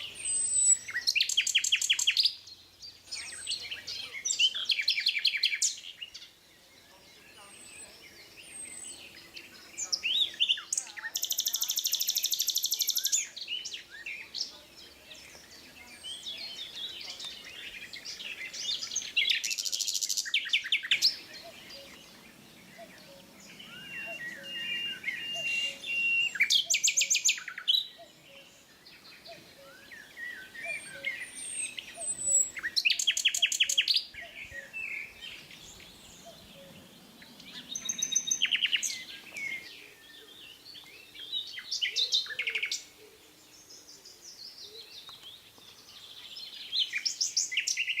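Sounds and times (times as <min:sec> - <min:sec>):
birds chirping and singing: 0:00.0 - 0:48.0.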